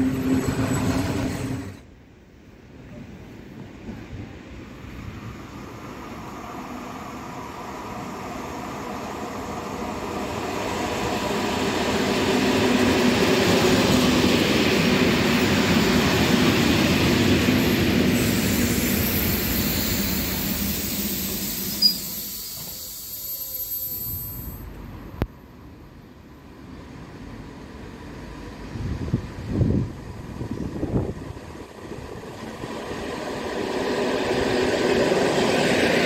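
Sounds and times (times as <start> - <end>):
train rumbling and humming past: 0.0 - 36.0.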